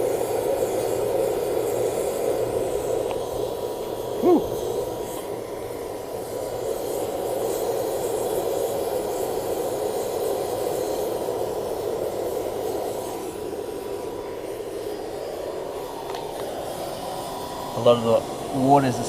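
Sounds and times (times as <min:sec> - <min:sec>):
furnace blower rushing air and fire: 0:00.0 - 0:19.0.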